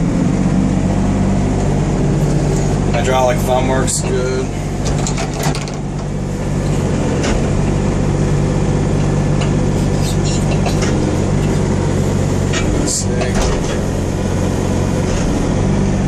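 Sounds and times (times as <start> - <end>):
diesel engine running: 0.0 - 16.0
hydraulics working: 0.0 - 16.0.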